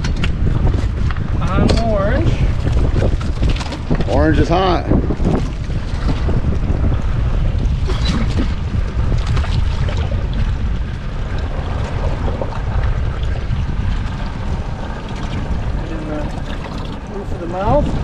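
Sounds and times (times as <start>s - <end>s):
water washing against hull: 0.0s - 18.0s
wind buffeting microphone: 0.0s - 18.0s.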